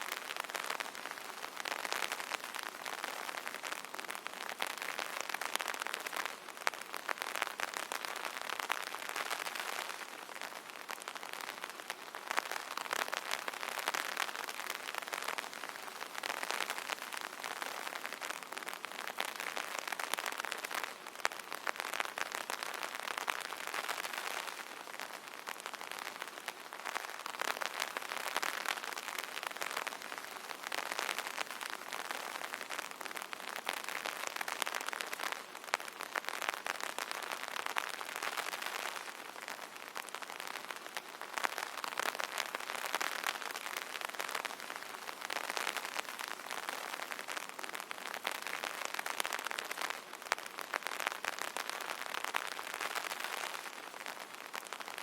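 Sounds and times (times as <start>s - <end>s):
rain pattering on an umbrella: 0.0s - 55.0s.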